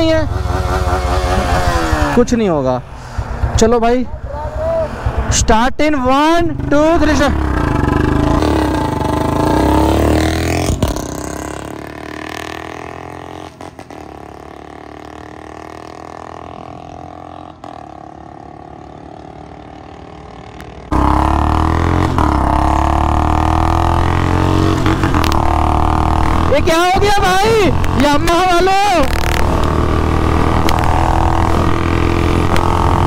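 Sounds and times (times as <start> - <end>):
motorcycle engines accelerating: 0.0 - 33.0
road noise: 0.0 - 33.0.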